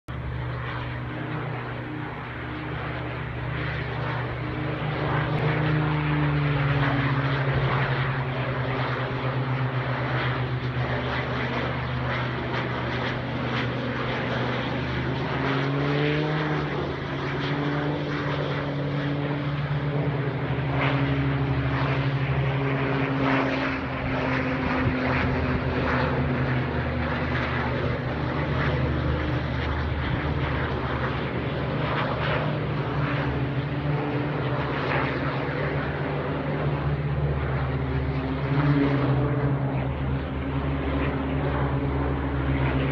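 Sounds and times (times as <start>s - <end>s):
propeller aircraft engine: 0.0s - 42.9s.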